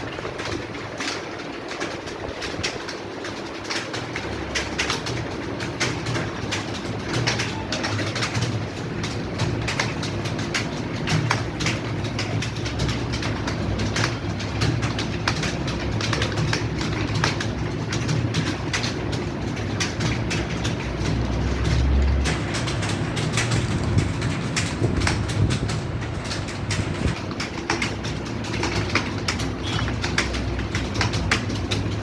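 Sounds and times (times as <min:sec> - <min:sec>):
keyboard typing clatter: 0:00.0 - 0:32.0.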